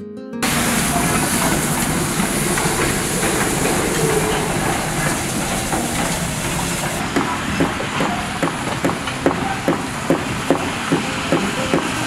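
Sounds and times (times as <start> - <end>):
train wheels clattering on rails: 0.4 - 12.0.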